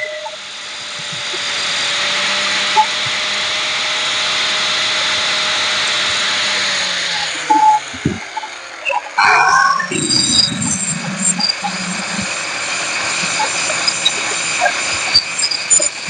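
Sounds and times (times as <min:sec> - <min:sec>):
electric power tool hissing: 0:00.0 - 0:08.9, 0:09.8 - 0:16.0.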